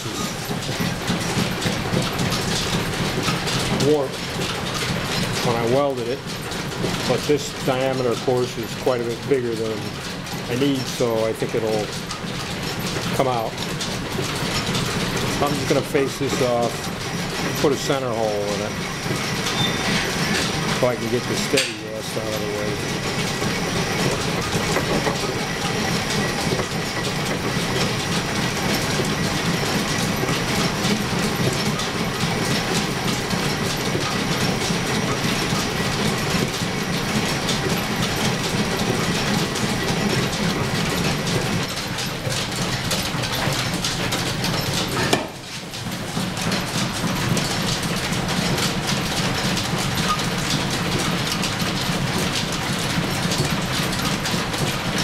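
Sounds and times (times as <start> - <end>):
lathe belts and gears rattling: 0.0 - 55.0.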